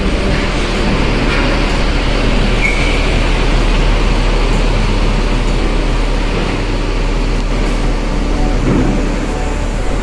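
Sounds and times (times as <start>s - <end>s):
diesel bus engine rumble: 0.0s - 10.0s.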